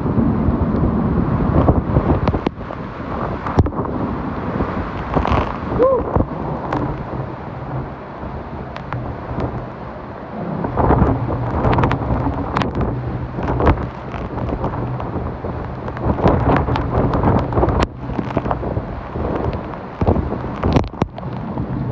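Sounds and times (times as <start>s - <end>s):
steady low hum: 0.0s - 21.9s
strong wind buffeting microphone: 0.0s - 21.9s.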